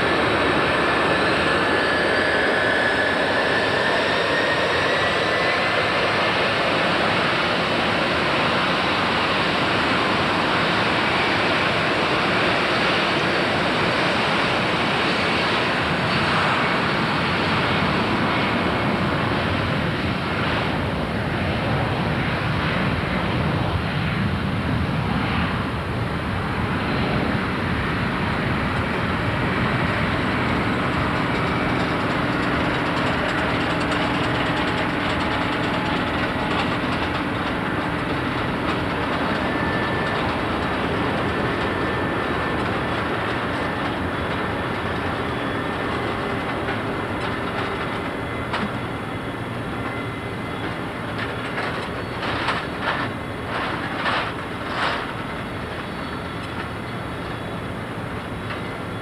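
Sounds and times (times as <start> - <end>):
jet engines roaring at takeoff: 0.0 - 59.0.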